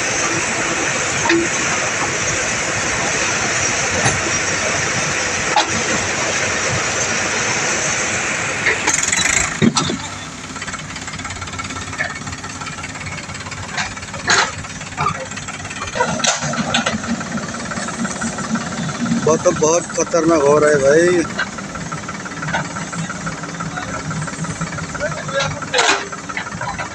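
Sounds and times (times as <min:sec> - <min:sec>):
diesel engines working: 0:00.0 - 0:26.9
knocks and clanks: 0:01.0 - 0:07.0, 0:08.7 - 0:26.9.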